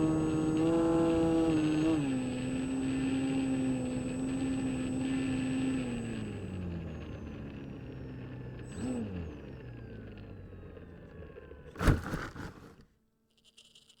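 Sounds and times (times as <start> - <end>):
model aircraft motor and propeller: 0.0 - 14.0.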